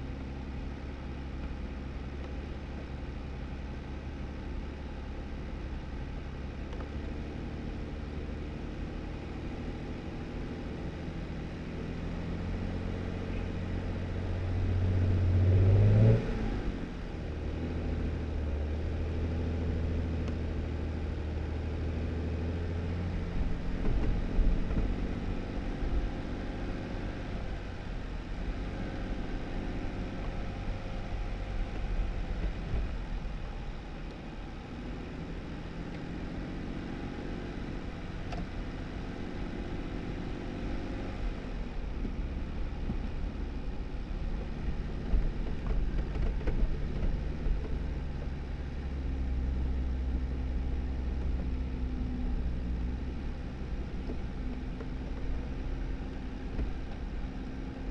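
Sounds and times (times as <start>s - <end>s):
car engine drone: 0.0s - 57.9s.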